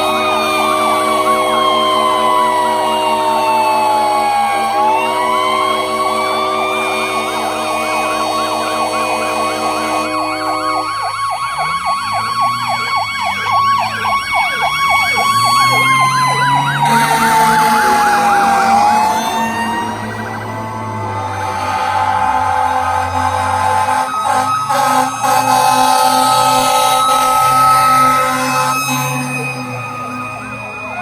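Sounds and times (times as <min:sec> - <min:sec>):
electronic yelp siren: 0:00.0 - 0:31.0
fire engine train horns: 0:00.0 - 0:31.0
wailing siren: 0:00.0 - 0:31.0.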